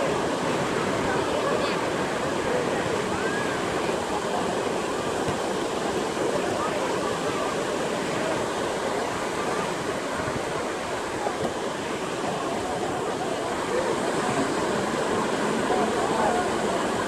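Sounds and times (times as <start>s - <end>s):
faint distant voices: 0.0s - 17.0s
surf washing over beach: 0.0s - 17.0s.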